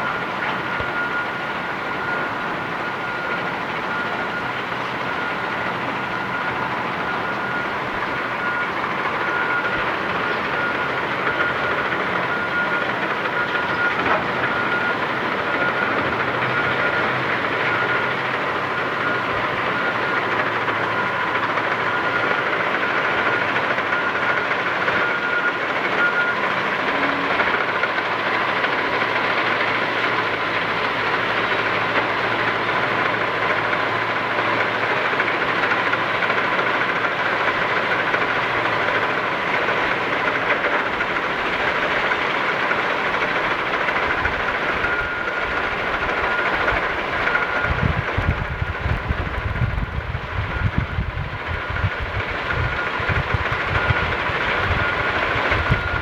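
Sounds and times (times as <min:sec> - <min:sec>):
bulldozer engine: 0:00.0 - 0:56.0
crawler tracks clattering and squealing: 0:02.2 - 0:56.0.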